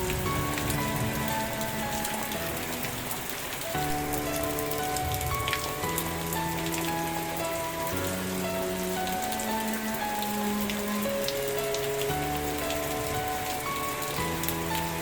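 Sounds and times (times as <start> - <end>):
soft background music chords: 0.0 - 15.0
steady rain: 0.0 - 15.0.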